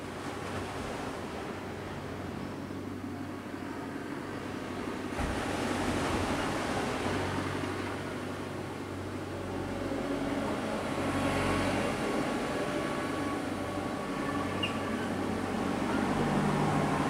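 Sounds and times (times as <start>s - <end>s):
sea noise: 0.0s - 17.0s
low engine drone: 1.3s - 17.0s.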